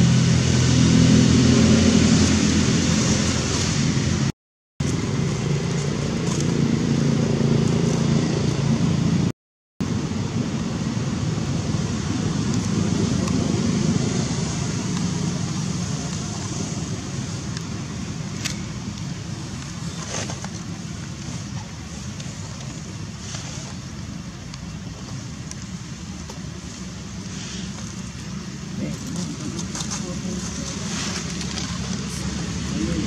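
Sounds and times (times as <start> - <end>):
vehicle engine humming: 0.0 - 33.0.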